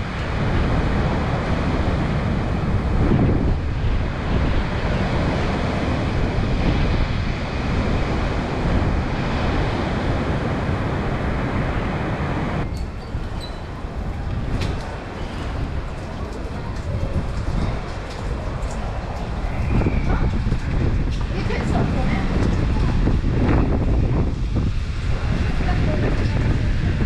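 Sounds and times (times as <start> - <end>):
sea surf: 0.0 - 27.0
wind buffeting microphone: 0.0 - 27.0.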